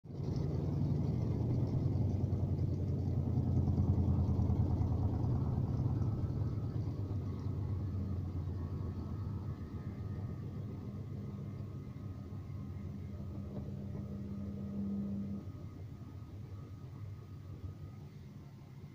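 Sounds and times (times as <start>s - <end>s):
washing machine spin rumble: 0.0s - 18.9s.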